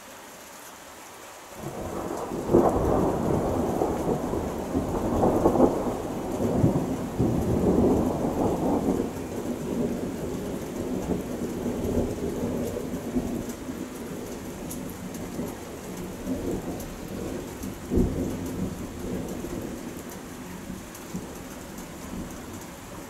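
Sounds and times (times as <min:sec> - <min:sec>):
steady rain: 0:00.0 - 0:23.0
thunder rumbling and cracking: 0:01.6 - 0:23.0.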